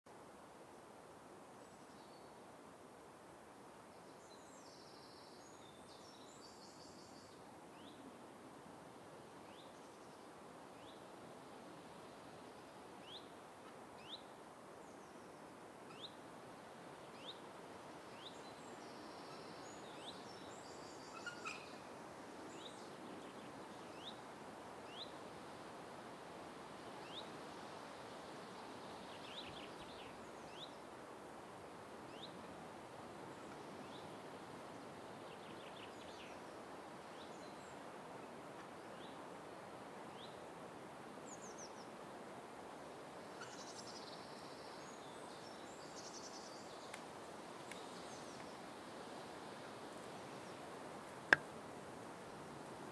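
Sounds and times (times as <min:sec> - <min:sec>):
steady background hiss: 0:00.1 - 0:52.9.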